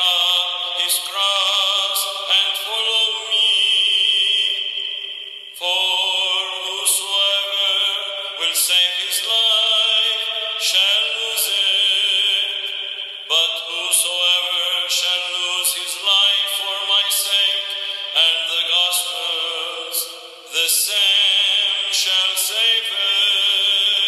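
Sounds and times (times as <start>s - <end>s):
person chanting recitative: 0.0s - 24.0s.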